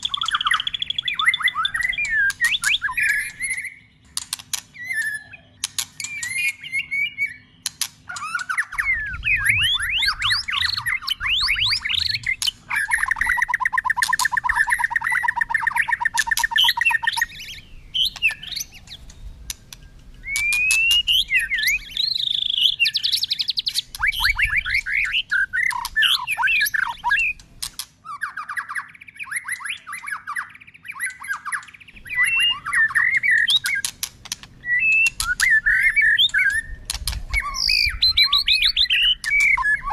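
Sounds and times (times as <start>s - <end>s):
bird singing whistled song: 0.0s - 39.9s.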